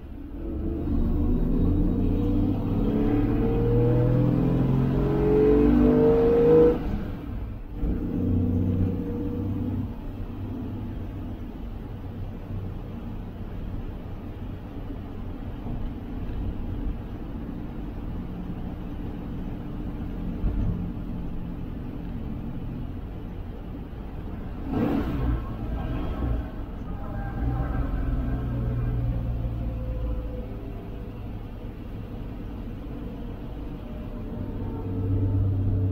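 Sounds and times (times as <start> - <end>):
van engine revving and droning: 0.0 - 35.9.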